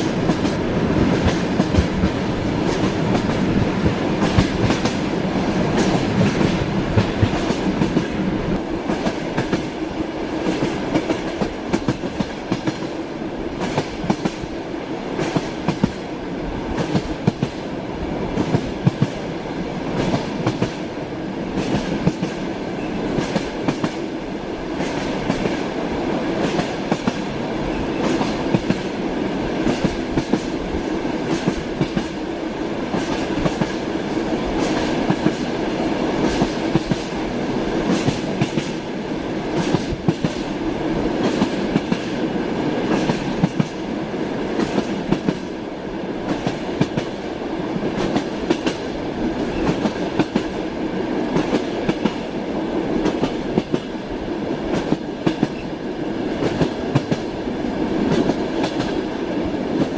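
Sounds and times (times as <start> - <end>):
train wheels clattering over rails: 0.0 - 13.0, 13.6 - 14.5, 15.1 - 16.1, 16.7 - 17.6, 18.3 - 19.3, 19.9 - 20.9, 21.5 - 24.1, 24.7 - 25.8, 26.4 - 37.2, 37.8 - 43.8, 44.4 - 45.5, 46.2 - 47.3, 47.9 - 50.6, 51.2 - 52.3, 52.9 - 54.1, 54.7 - 57.4, 58.0 - 59.1.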